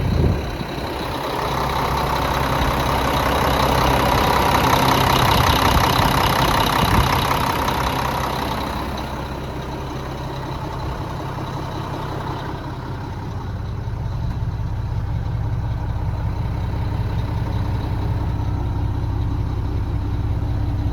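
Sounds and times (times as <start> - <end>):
truck diesel engine idling: 0.0 - 20.9.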